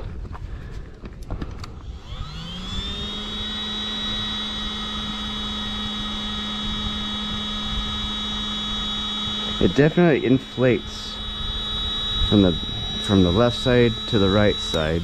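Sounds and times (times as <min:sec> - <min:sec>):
electric air pump whining: 0:00.0 - 0:15.0.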